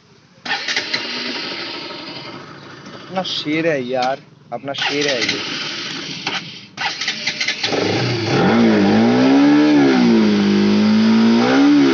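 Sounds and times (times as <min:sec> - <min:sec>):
motorcycle engine starting and idling: 0:00.3 - 0:11.9.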